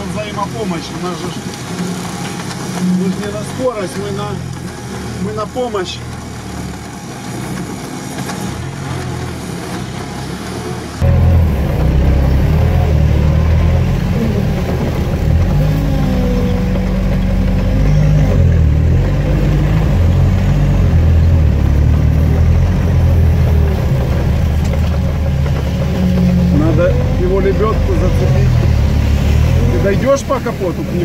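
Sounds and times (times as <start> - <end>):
off-road vehicle engine rumbling: 0.0 - 31.0.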